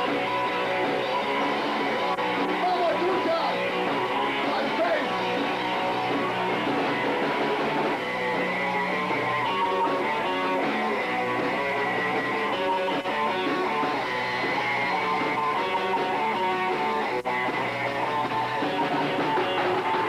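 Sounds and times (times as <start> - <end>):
electric guitar: 0.0 - 20.0
punk band playing live: 0.0 - 20.0.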